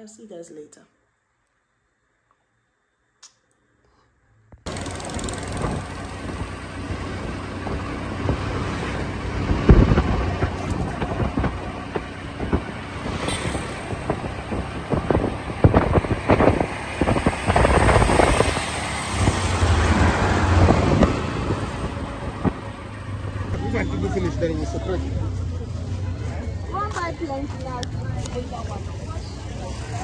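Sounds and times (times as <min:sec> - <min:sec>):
road noise: 0:04.4 - 0:30.0
auto-rickshaw engine running: 0:04.7 - 0:30.0.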